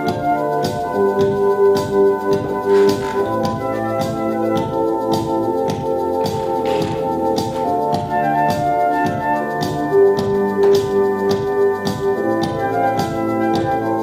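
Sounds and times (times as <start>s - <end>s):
sustained chords over steady beat: 0.0s - 14.0s.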